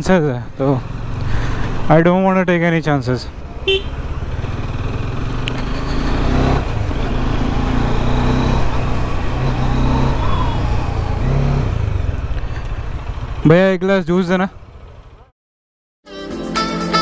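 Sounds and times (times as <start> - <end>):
motorcycle engine running: 0.0 - 2.0, 3.3 - 15.3
road noise: 0.0 - 15.3.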